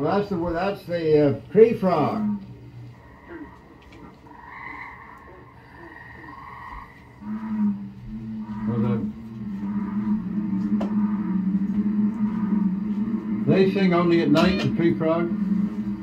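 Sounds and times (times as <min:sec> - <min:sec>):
tree frog notes: 0:01.5 - 0:16.0
deep frog call: 0:01.9 - 0:16.0.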